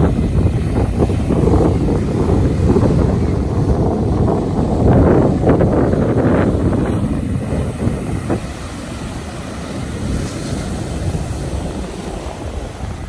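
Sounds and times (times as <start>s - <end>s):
breaking surf rumble: 0.0s - 13.0s
wind buffeting microphone: 0.0s - 13.0s.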